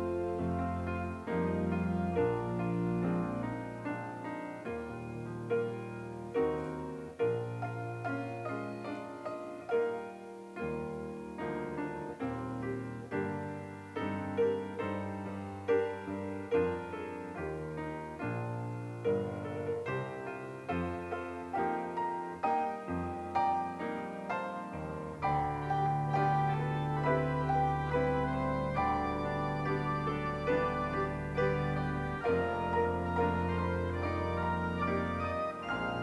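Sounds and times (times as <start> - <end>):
slow gentle piano piece: 0.0 - 36.0.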